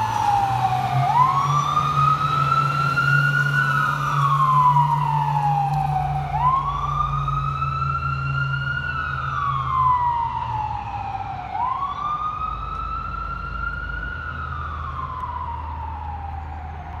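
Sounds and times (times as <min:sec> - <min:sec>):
fire truck siren wailing: 0:00.0 - 0:17.0
truck engines droning: 0:00.0 - 0:17.0.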